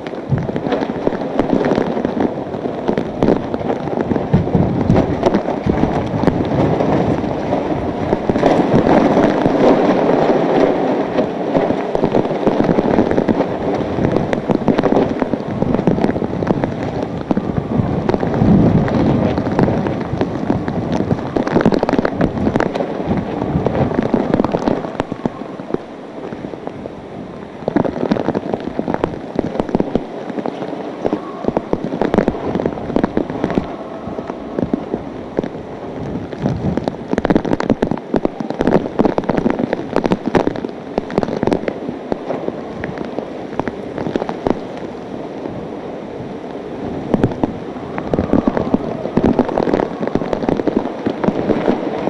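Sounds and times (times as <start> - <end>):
hurricane wind and rain: 0.0 - 52.0
sharp crackles and pops: 0.0 - 52.0.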